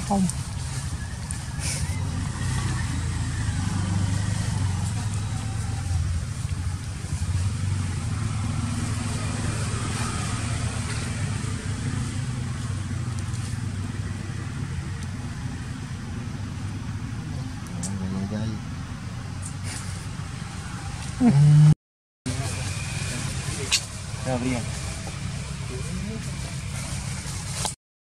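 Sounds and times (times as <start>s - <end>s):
engine humming: 0.0s - 27.8s.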